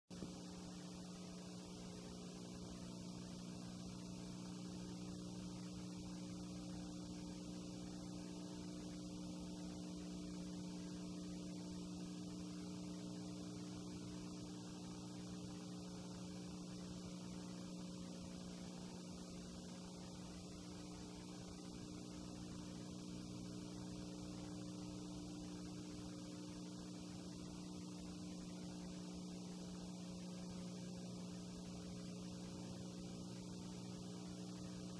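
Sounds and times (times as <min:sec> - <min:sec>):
electrical hum: 0:00.1 - 0:34.9
tape hiss: 0:00.1 - 0:34.9.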